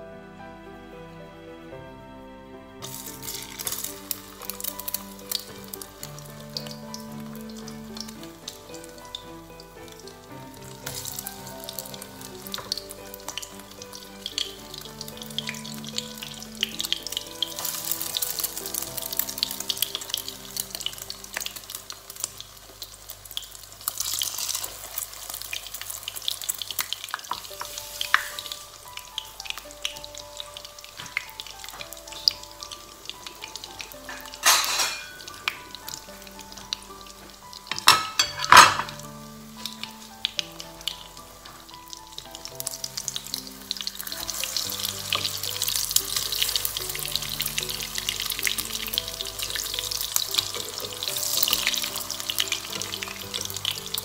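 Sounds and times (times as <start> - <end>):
eggplant frying in oil: 2.8 - 54.0.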